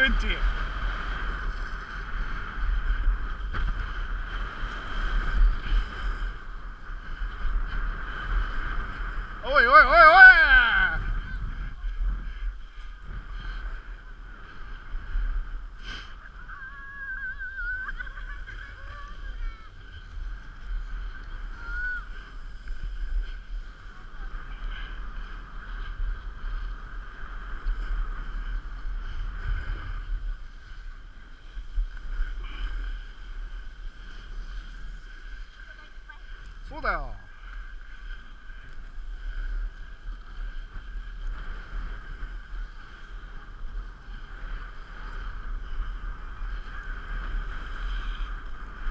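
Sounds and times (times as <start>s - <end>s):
skis sliding on snow: 0.0s - 48.9s
wind buffeting microphone: 0.0s - 48.9s.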